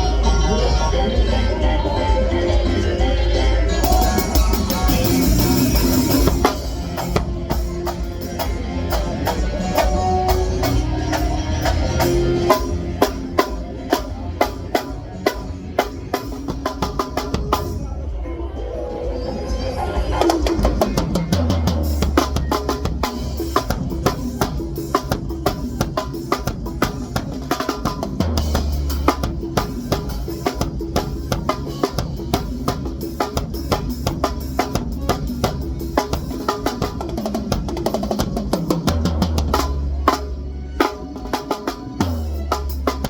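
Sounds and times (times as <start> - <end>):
drum kit playing fast groove: 3.7 - 17.8, 20.2 - 43.0.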